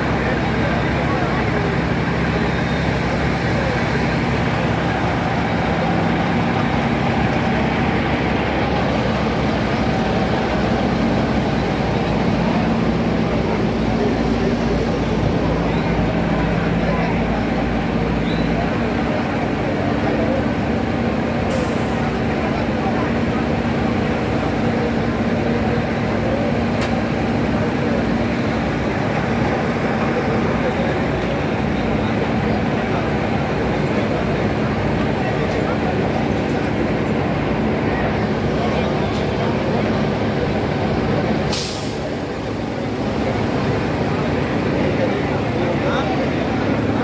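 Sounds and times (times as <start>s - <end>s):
large engine running: 0.0s - 47.0s.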